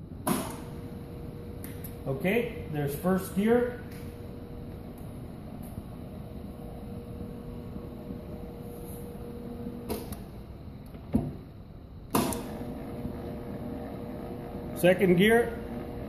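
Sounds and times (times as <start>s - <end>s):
mixer motor humming: 0.3s - 10.4s, 12.2s - 16.0s.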